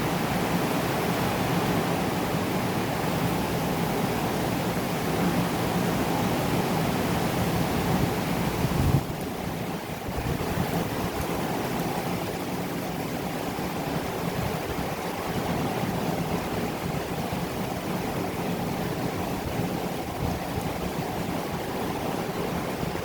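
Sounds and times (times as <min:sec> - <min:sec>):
rain falling steadily: 0:00.0 - 0:23.0
wind: 0:00.0 - 0:23.0.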